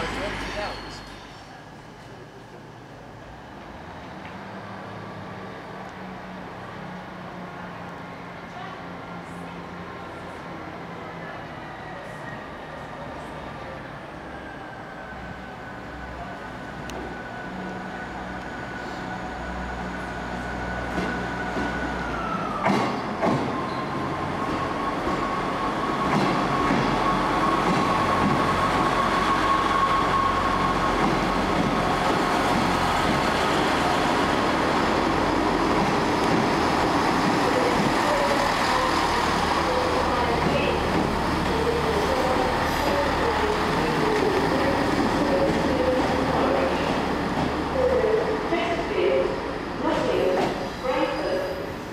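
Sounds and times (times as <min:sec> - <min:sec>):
diesel train engine whine: 0:00.0 - 0:51.9.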